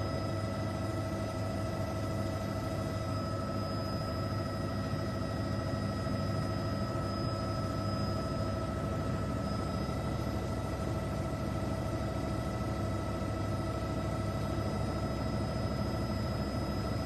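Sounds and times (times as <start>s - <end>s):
constant high whine: 0.0s - 17.0s.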